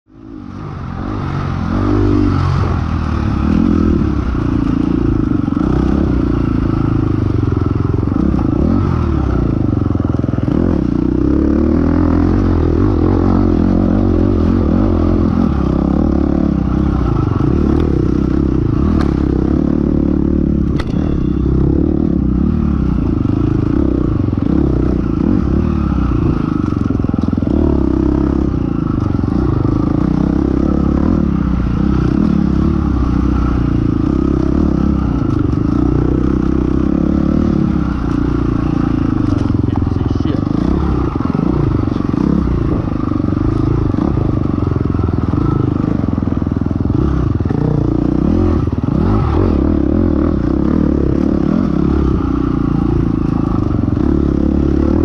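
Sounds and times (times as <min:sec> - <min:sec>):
dirt bike engine revving: 0:00.2 - 0:55.0.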